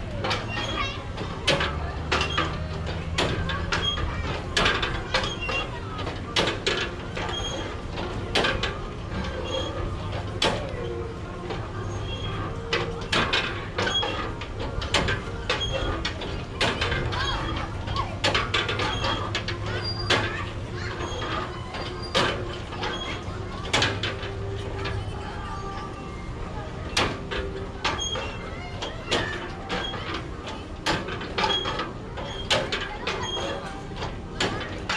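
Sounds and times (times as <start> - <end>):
short squeaks: 0.2 - 34.9.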